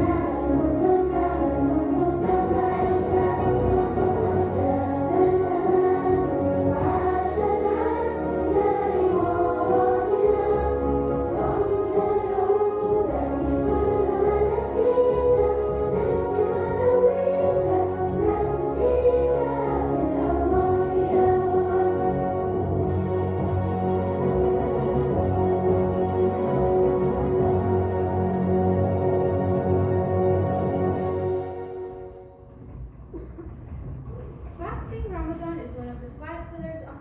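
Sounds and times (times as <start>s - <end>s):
choir singing: 0.0s - 32.3s
instrumental accompaniment: 0.0s - 33.3s.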